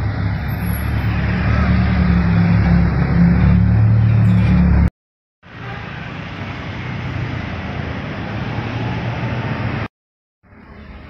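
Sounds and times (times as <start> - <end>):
street traffic rushing: 0.0 - 11.0.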